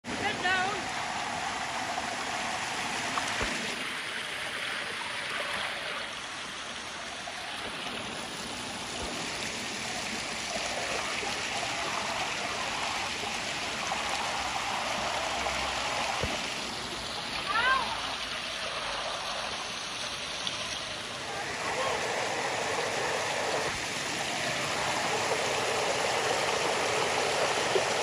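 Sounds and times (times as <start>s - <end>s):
stream water over stones: 0.0s - 28.0s.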